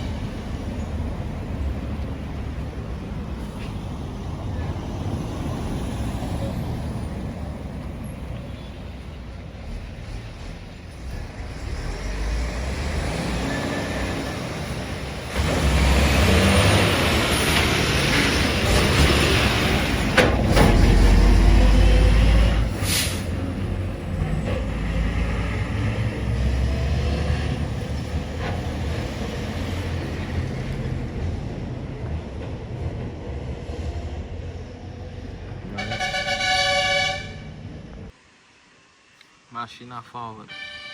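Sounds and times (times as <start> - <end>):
heavy truck passing: 0.0 - 38.2.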